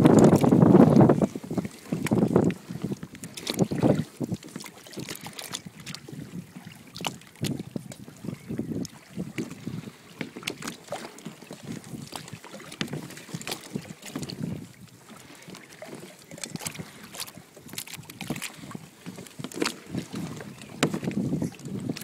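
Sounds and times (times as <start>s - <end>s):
water lapping against hull: 0.0s - 22.0s.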